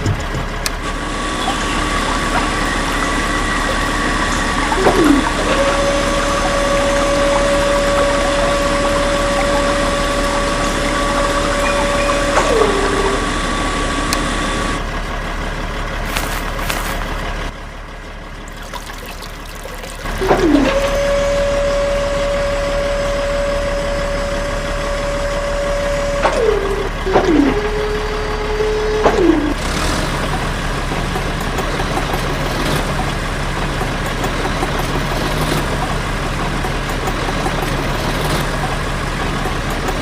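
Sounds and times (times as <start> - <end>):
small motors whining: 0.6 - 15.0, 20.0 - 40.0
water rushing from pump: 0.6 - 17.6, 18.4 - 40.0.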